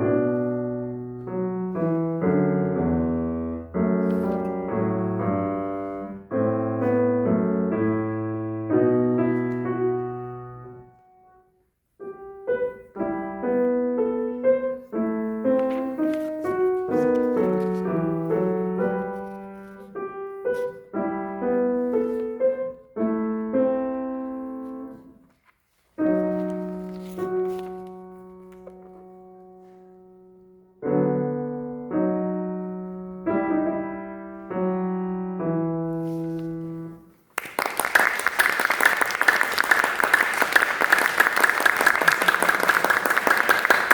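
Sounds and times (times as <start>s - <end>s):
piano playing: 0.0s - 25.2s, 26.0s - 43.9s.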